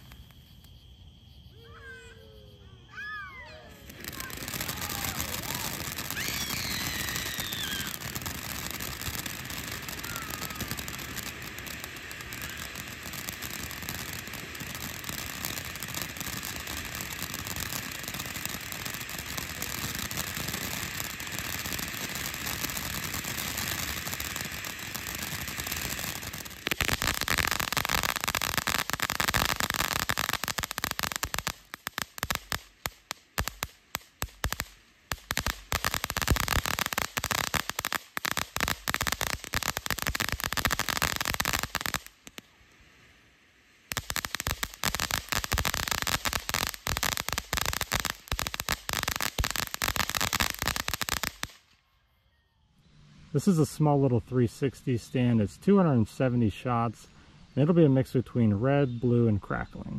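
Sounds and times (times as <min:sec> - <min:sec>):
fireworks crackling and popping: 0:00.0 - 0:51.8, 0:53.0 - 0:59.9.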